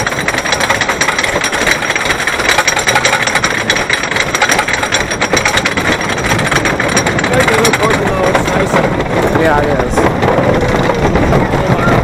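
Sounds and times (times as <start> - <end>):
roller coaster chain clattering: 0.0 - 12.0.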